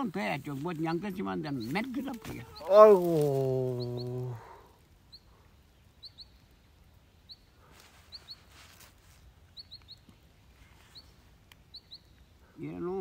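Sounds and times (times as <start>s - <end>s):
small bird chirping: 0.6s - 13.0s.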